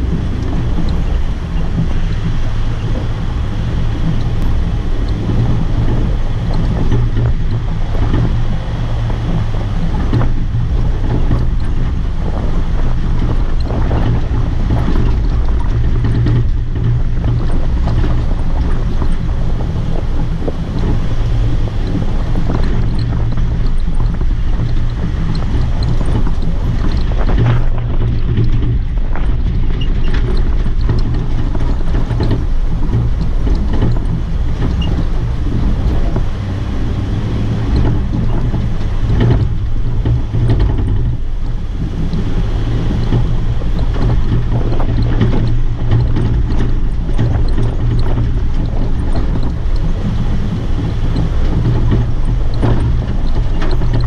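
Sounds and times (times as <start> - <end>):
vehicle engine and tyres rumbling: 0.0 - 54.0
wind buffeting microphone: 0.0 - 54.0.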